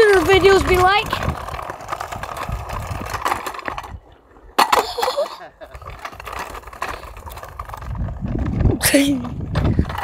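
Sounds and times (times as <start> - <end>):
scooter wheels rolling over paving: 0.0 - 10.0.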